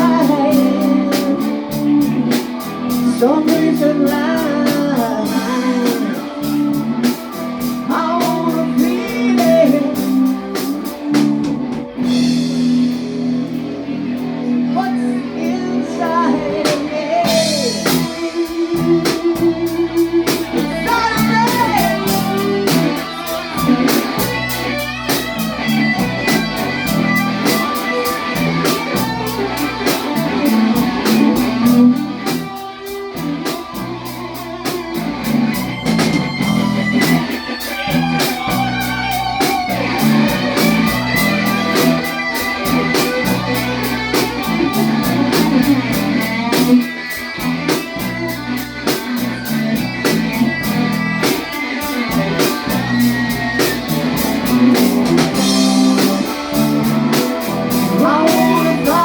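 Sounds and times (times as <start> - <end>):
steady drum beat: 0.0 - 13.8, 16.6 - 59.0
bass guitar: 0.0 - 59.0
electric guitar lead line: 0.0 - 59.0.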